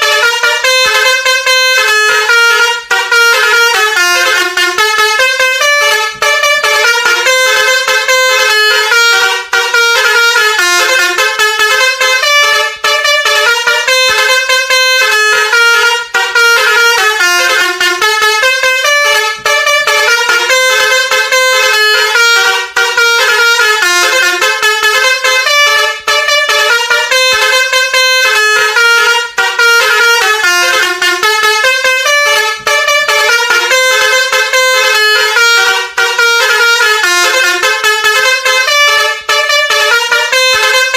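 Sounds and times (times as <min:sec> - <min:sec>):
multi-tone horn melody: 0:00.0 - 0:40.9.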